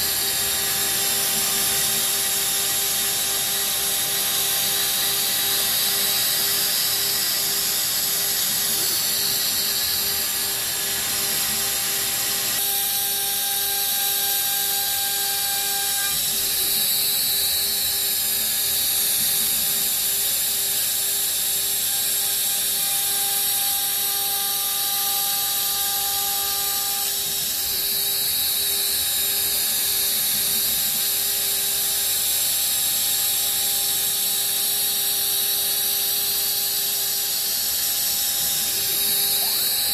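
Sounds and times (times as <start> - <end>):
router spindle cutting with high whine: 0.0 - 39.9.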